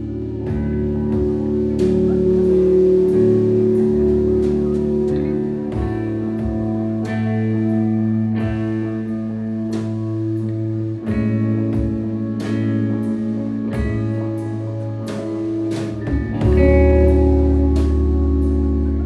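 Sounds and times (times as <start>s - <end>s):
droning electric guitars: 0.0s - 19.0s
heavy sustained bass: 0.0s - 19.0s
steady drum beat: 0.0s - 19.0s.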